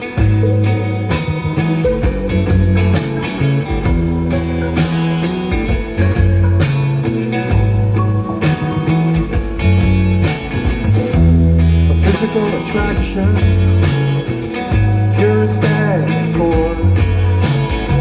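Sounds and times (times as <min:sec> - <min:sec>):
bass notes: 0:00.0 - 0:18.0
drum kit steady beat: 0:00.0 - 0:18.0
guitar: 0:00.0 - 0:18.0.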